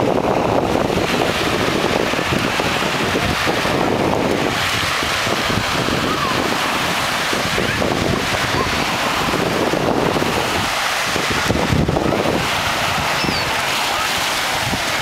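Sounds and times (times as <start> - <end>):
waves washing onto sand beach: 0.0 - 15.0
wind buffeting microphone: 0.0 - 15.0.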